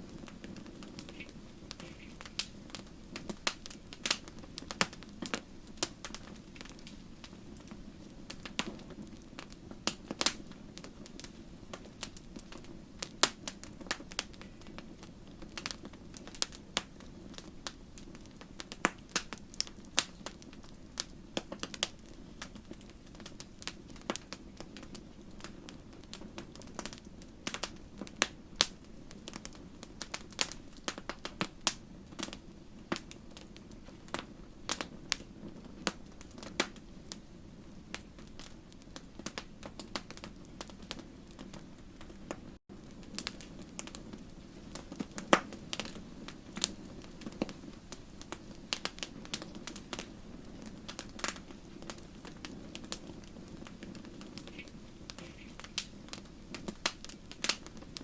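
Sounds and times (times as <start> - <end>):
campfire crackling and popping: 0.0 - 58.0
low rush of flame: 0.0 - 58.0.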